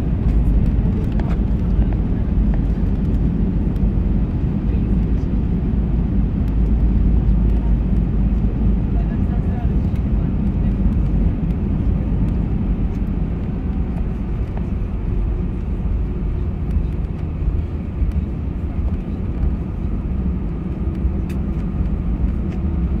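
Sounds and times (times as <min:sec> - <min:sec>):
low rumble of wheels and engines: 0:00.0 - 0:23.0.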